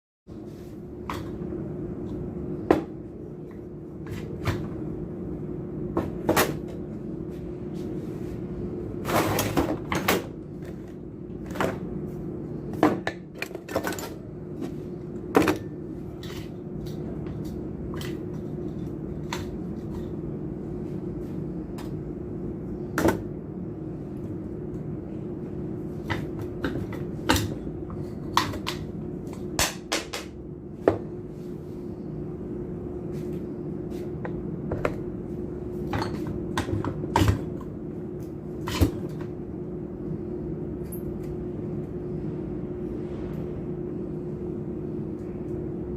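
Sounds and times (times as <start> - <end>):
steady low hum: 0.3 - 45.9.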